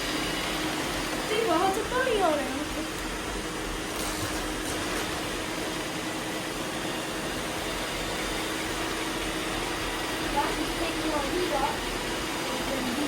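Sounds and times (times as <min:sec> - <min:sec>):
robot vacuums whirring: 0:00.0 - 0:13.0.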